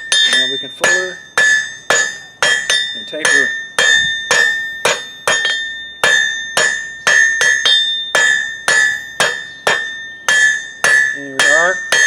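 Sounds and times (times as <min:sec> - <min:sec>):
anvil ringing: 0:00.0 - 0:12.0
hammer striking steel on anvil: 0:00.0 - 0:12.0.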